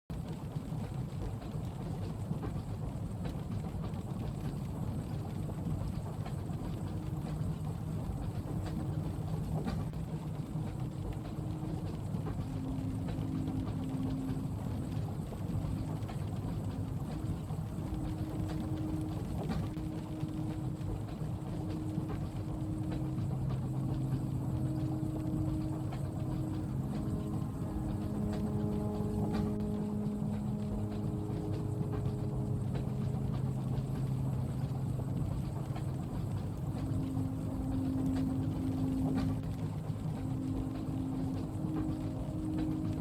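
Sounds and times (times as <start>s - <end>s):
rain on a window: 0.1s - 43.0s
train carriage rumble: 0.1s - 43.0s
faint hum: 0.2s - 43.0s.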